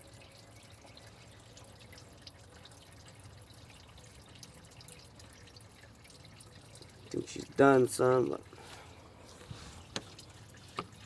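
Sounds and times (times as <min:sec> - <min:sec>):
coolant dribbling into bucket: 0:00.0 - 0:11.0.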